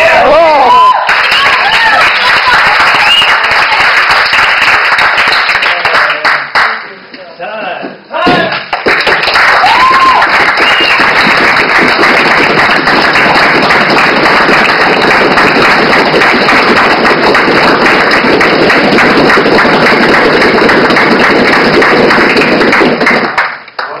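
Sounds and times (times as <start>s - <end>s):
crowd applause: 0.0s - 6.8s, 8.7s - 24.0s.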